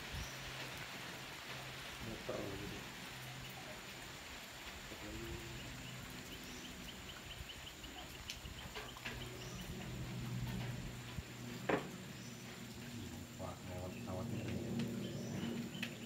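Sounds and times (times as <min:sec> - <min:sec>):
rainforest ambience: 0:00.0 - 0:16.0
aircraft drone overhead: 0:00.2 - 0:08.0, 0:08.8 - 0:16.0.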